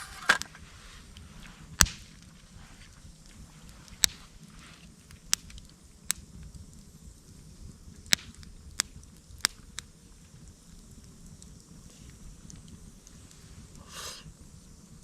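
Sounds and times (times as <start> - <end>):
campfire wood crackling: 0.0 - 15.0
fire popping: 0.0 - 15.0.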